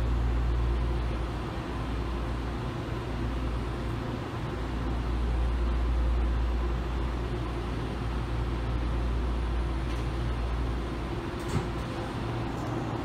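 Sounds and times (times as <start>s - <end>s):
rail car equipment hum and hiss: 0.0s - 13.0s.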